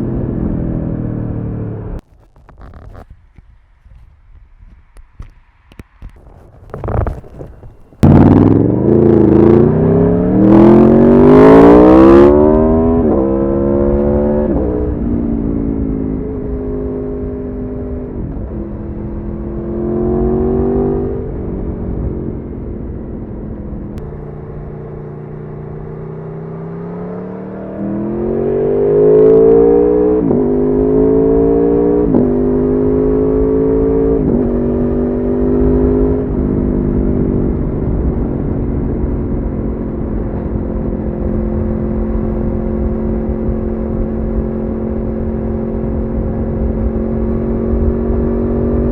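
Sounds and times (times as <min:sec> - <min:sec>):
motorcycle engine accelerating: 0:00.0 - 0:02.0, 0:06.2 - 0:48.9.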